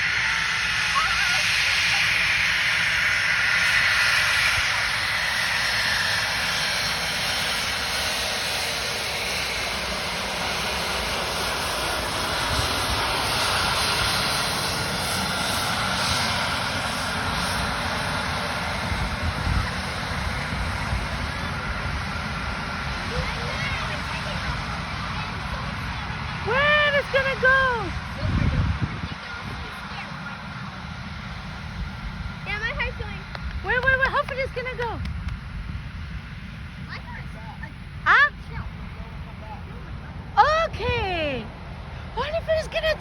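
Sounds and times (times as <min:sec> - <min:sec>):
jet engines running: 0:00.0 - 0:43.0.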